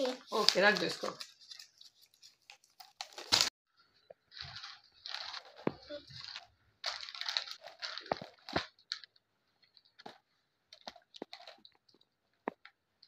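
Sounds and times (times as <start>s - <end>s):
plastic wrappers crinkling: 0.0s - 3.5s, 4.1s - 12.8s.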